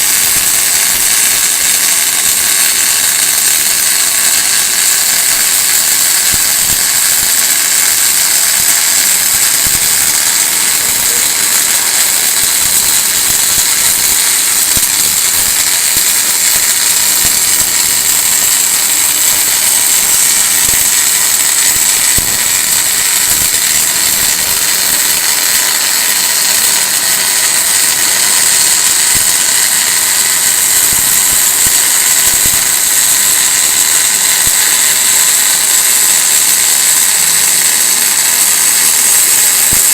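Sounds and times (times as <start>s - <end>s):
welding arc hissing and crackling: 0.0s - 39.9s.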